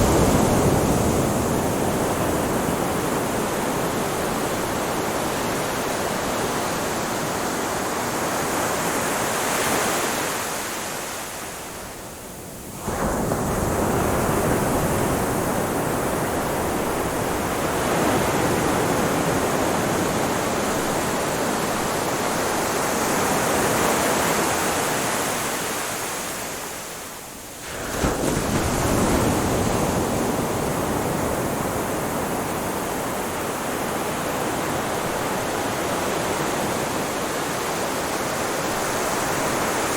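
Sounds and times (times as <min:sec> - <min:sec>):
ocean surf roar: 0:00.0 - 0:39.9.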